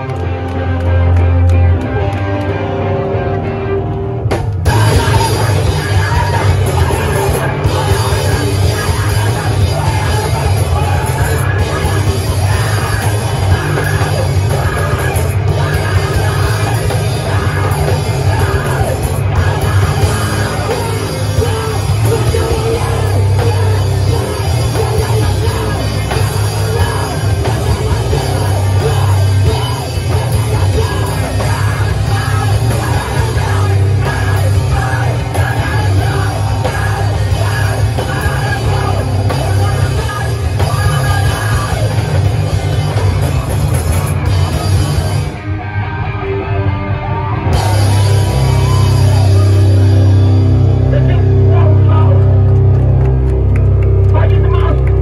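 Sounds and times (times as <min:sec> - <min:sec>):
live distorted rock band: 0:00.0 - 0:55.0
drum kit: 0:04.2 - 0:45.5, 0:47.5 - 0:55.0
shouted vocals: 0:04.7 - 0:42.3, 0:44.1 - 0:52.5.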